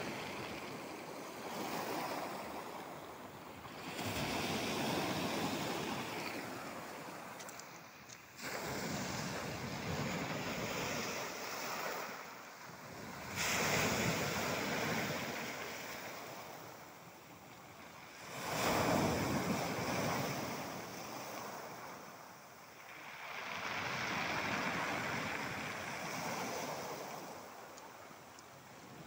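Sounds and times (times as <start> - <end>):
waves washing onto shore: 0.0 - 29.0.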